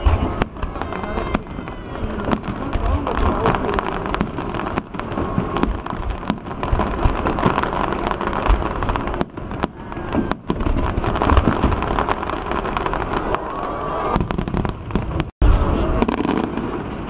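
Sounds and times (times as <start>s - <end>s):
fireworks booms and cracks: 0.0s - 17.0s.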